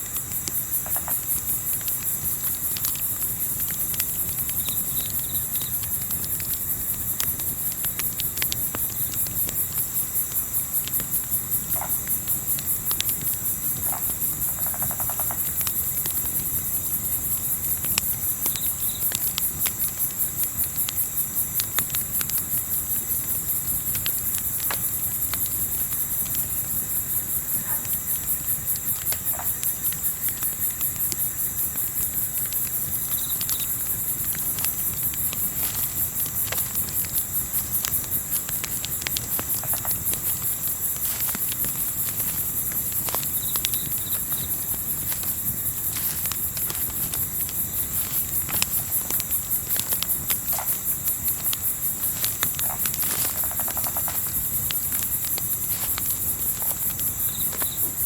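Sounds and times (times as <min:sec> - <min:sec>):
campfire crackling: 0:00.0 - 0:58.0
crickets chirping: 0:00.0 - 0:58.0.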